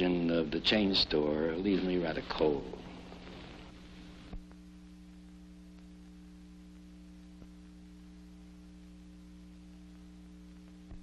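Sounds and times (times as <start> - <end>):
film soundtrack hiss: 0.0 - 11.0
low electrical hum: 0.0 - 11.0.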